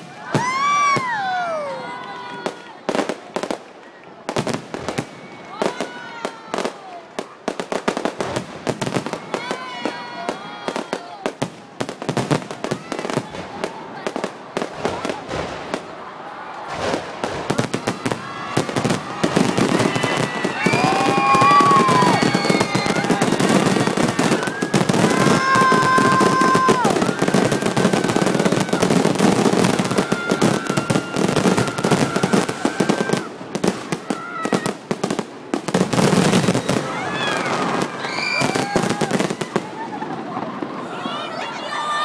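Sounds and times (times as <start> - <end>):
onlookers shouting: 0.0 - 3.6, 4.4 - 7.3, 8.8 - 11.5, 12.1 - 35.2, 35.9 - 42.0
fireworks crackling and banging: 0.0 - 41.9.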